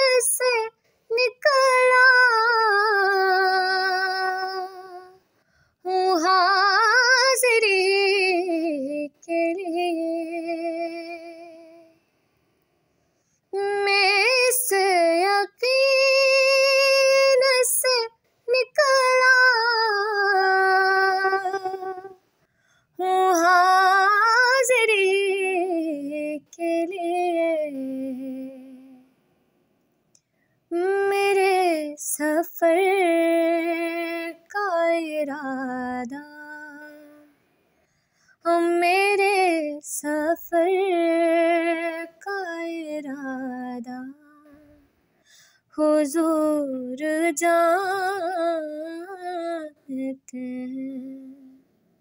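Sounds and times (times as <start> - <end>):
woman singing unaccompanied: 0.0 - 5.2, 5.8 - 12.0, 13.5 - 22.2, 23.0 - 29.1, 30.7 - 37.4, 38.4 - 44.8, 45.7 - 51.6.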